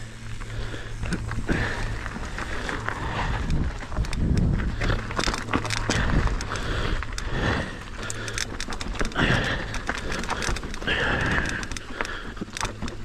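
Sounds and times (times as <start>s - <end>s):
bike rattling and clattering: 0.0s - 13.0s
tyres crunching over dirt and stones: 0.0s - 13.0s
wind rumble on microphone: 0.0s - 13.0s.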